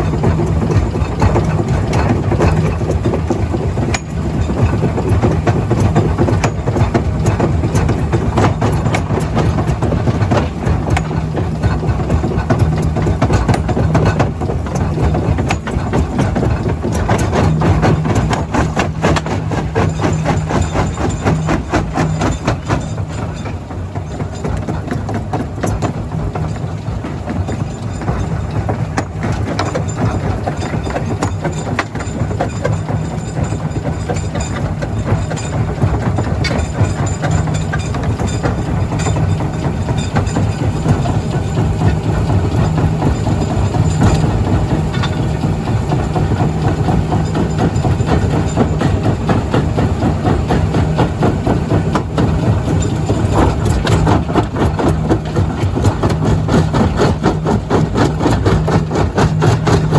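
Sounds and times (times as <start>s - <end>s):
clatter and knocks: 0.0s - 59.9s
diesel machinery engine drone: 0.0s - 59.9s.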